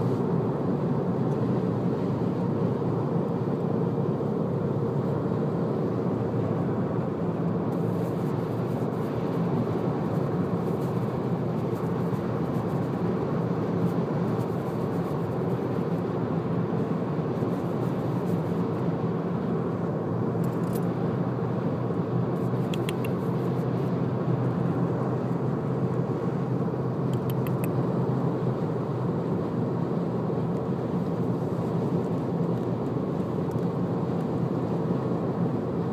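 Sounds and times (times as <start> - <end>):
car cabin hum and rumble: 0.0 - 35.9.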